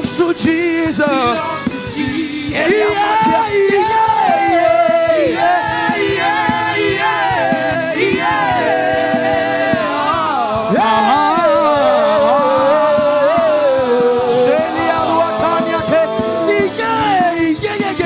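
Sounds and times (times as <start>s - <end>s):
music: 0.0s - 18.0s
group singing gospel: 1.2s - 18.0s.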